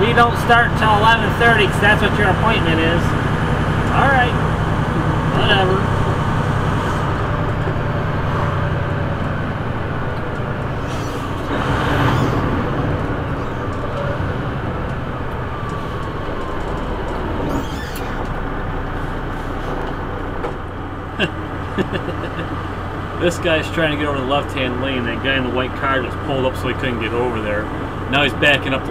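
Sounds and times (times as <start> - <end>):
diesel engine drone: 0.0 - 28.9
road noise: 0.0 - 28.9.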